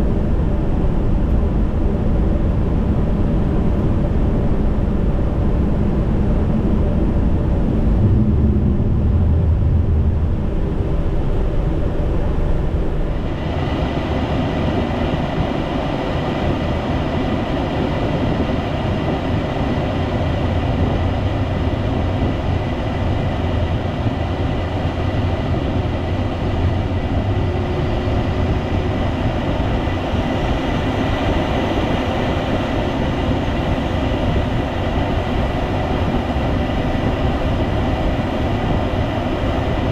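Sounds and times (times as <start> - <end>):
airflow and engine rumble: 0.0 - 39.9
faint steady whine: 0.0 - 39.9.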